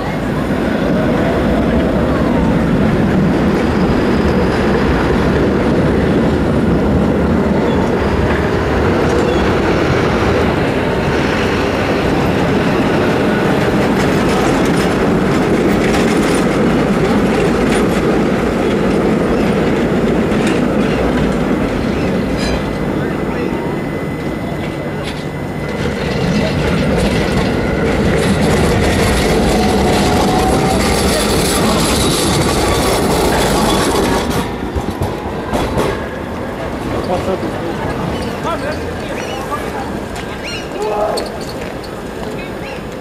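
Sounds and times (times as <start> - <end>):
tram wheels rumbling and clacking: 0.0 - 43.0.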